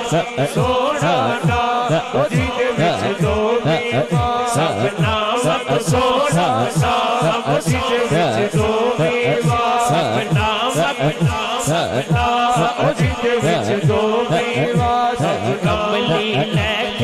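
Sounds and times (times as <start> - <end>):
chanting voices: 0.0 - 17.0
man singing into a microphone: 0.0 - 17.0.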